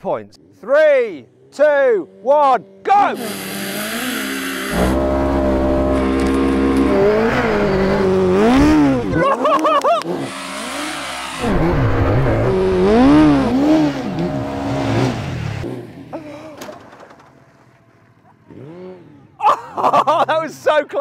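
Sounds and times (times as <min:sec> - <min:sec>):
off-road buggy engine revving: 0:00.3 - 0:16.7, 0:18.4 - 0:19.6
motorcycle engine revving: 0:00.4 - 0:16.2, 0:18.3 - 0:19.4.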